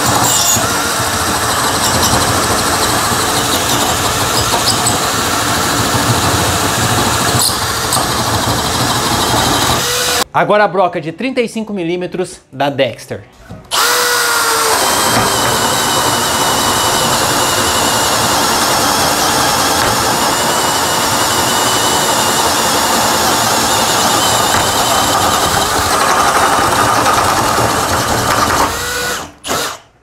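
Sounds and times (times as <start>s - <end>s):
cordless drill boring a hole: 0.0s - 10.2s, 13.7s - 29.9s.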